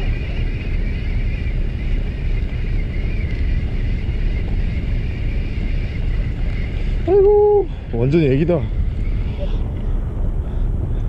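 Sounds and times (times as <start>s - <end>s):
thin wavering whine: 0.0s - 10.6s
boat rumble: 0.0s - 11.0s
wind buffeting microphone: 0.0s - 11.0s.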